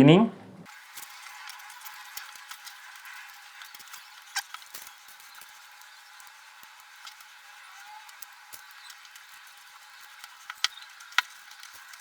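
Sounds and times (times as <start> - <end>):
faint rubbing and small ticks: 0.9 - 12.0.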